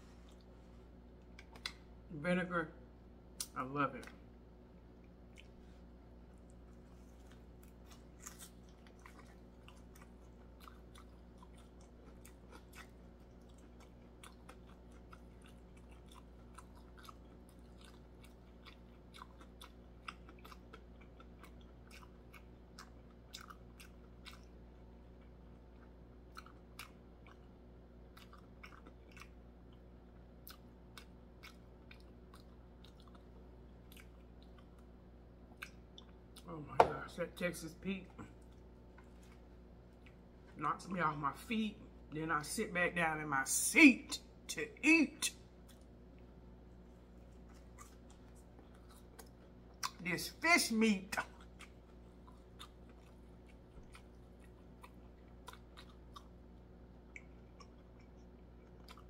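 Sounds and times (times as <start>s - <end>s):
faint steady hum: 0.0s - 59.0s
chewing crisp fried fish: 4.8s - 36.6s, 38.0s - 40.6s, 45.2s - 50.4s, 51.1s - 59.0s.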